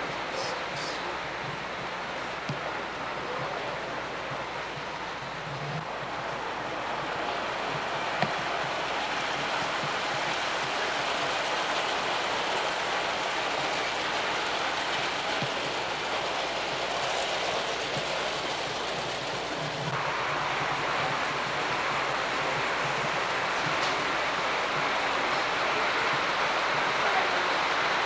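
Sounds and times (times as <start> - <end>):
model train wheels rumbling: 0.0 - 28.0.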